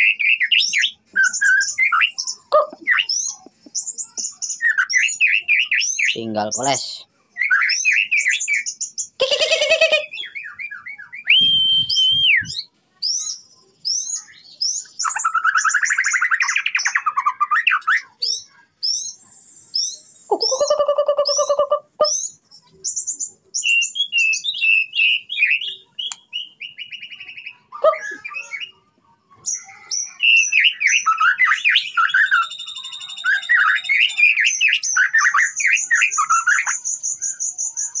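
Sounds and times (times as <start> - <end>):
songbird singing whistles and trills: 0.0 - 6.2, 7.3 - 28.8, 29.4 - 38.0.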